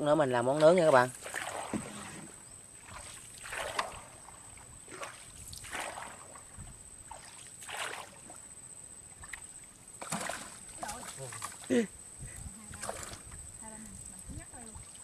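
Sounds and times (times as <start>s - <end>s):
water splashing and dripping: 0.6s - 8.4s, 9.2s - 11.8s, 12.7s - 15.0s.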